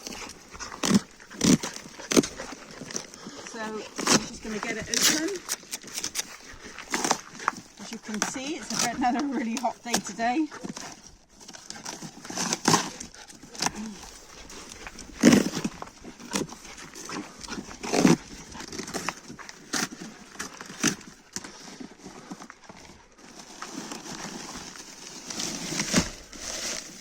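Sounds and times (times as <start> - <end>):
cardboard parcel being handled: 0.0 - 27.0.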